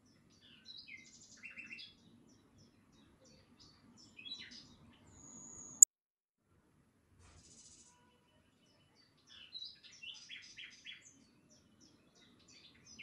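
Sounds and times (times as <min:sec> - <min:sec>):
faint bird chirping: 0:00.0 - 0:05.9, 0:07.4 - 0:13.0.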